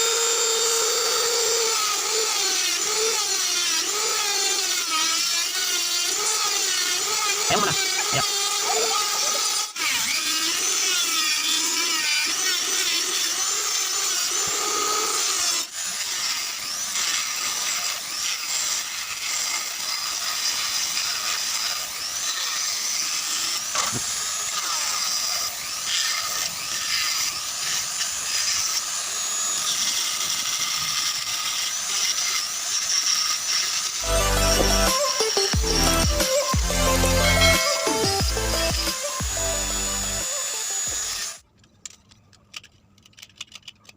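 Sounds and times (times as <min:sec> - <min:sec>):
power tool cutting wood: 0:00.0 - 0:41.4.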